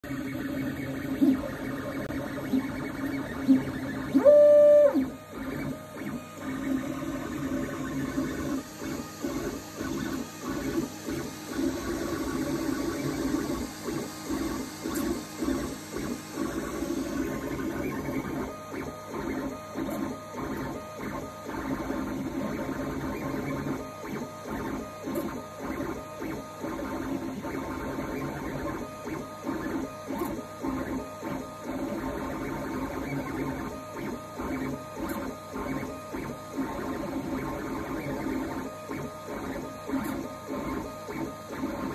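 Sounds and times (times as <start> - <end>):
printer stepper motors whining: 0.1 - 41.9.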